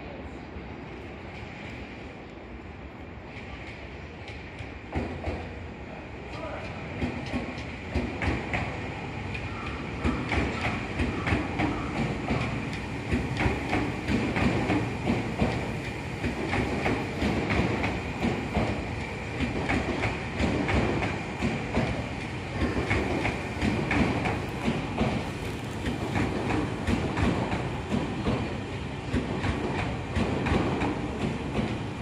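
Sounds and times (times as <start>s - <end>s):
train wheels clacking on rail joints: 3.3s - 5.6s, 6.3s - 32.0s.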